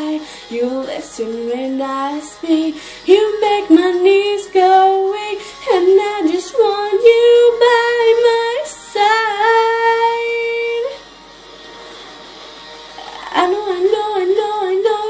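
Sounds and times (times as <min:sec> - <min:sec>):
woman singing pop song: 0:00.0 - 0:11.0, 0:13.2 - 0:15.0.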